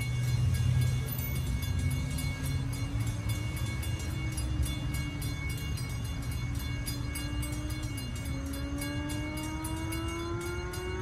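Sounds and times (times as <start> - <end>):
crossing warning bell dinging: 0.0 - 11.0.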